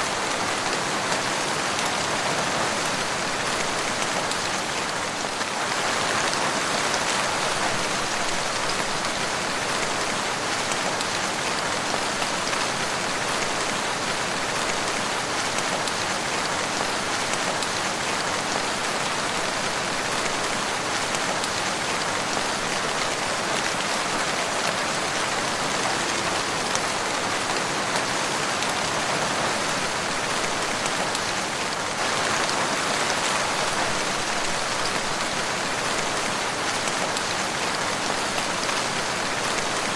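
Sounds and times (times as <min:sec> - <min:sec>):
steady rain hiss: 0:00.1 - 0:39.9.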